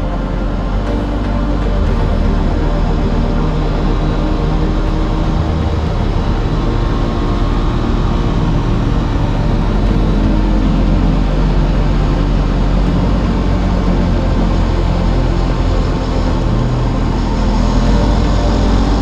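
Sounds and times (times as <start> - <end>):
rush of noise: 0.0 - 19.0.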